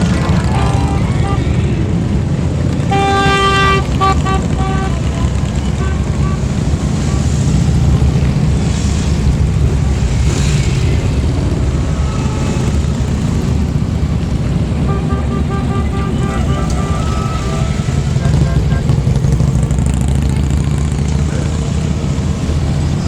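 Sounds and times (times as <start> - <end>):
horn toots: 0.0 - 20.4
motorcycle engines rumbling: 0.0 - 23.0.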